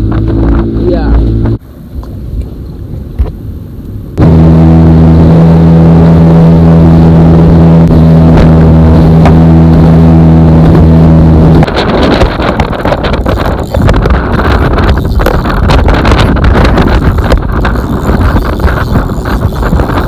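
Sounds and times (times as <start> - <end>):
motorboat engine running: 0.0 - 1.6, 4.1 - 20.0.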